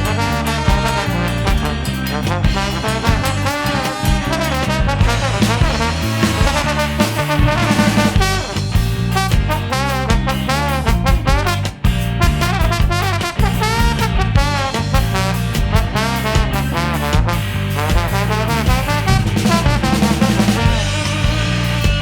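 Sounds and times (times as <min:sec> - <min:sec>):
live ska band with horns: 0:00.0 - 0:22.0.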